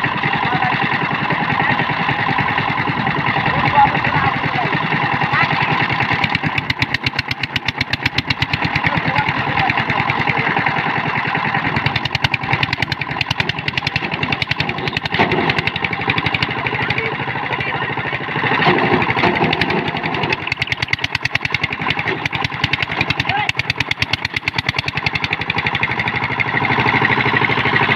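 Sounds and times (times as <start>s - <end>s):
diesel engine chugging under load: 0.0s - 27.9s.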